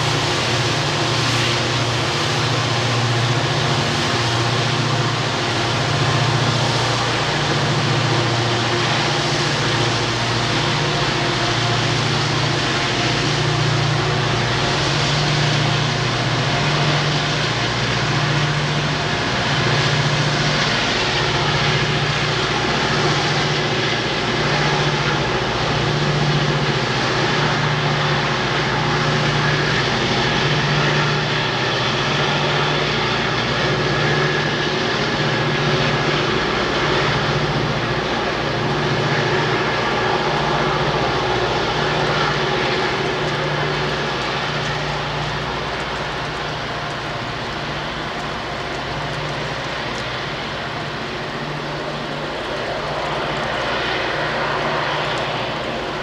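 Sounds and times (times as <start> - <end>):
diesel locomotive engines working: 0.0 - 56.0
wide rushing noise: 0.0 - 56.0.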